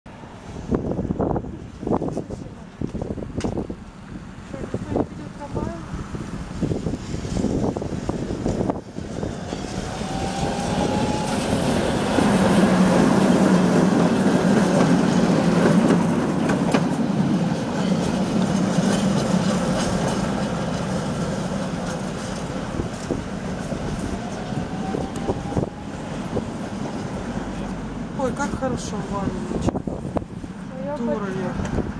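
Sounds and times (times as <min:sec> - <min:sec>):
tram wheels rumbling on rails: 0:00.1 - 0:31.9.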